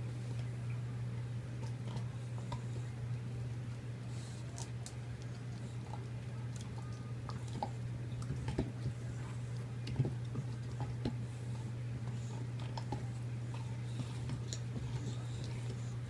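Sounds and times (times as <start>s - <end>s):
dog gnawing on bone: 1.6s - 16.0s.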